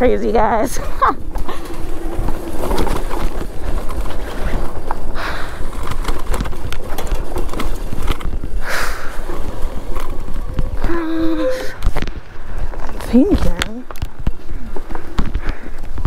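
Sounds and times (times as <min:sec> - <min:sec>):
bike rattling over dirt trail: 0:00.0 - 0:16.0
wind rumble on microphone: 0:00.0 - 0:16.0.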